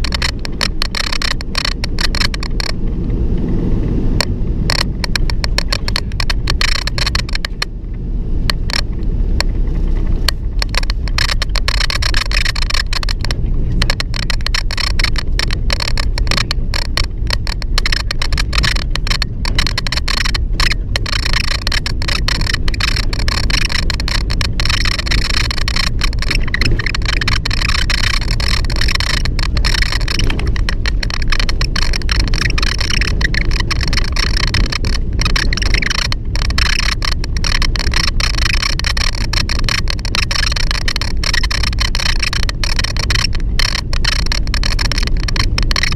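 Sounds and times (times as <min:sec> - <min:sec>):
vehicle rumble: 0:00.0 - 0:45.9
door squeaking and clicking: 0:08.5 - 0:45.9.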